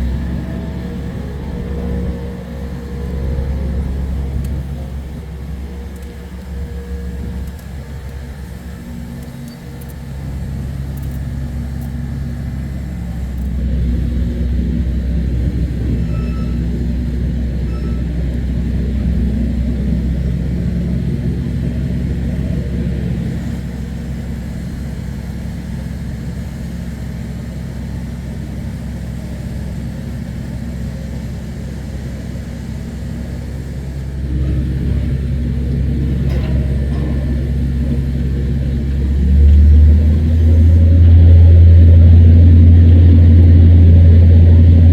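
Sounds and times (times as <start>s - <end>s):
machinery engine rumbling: 0.0s - 44.9s.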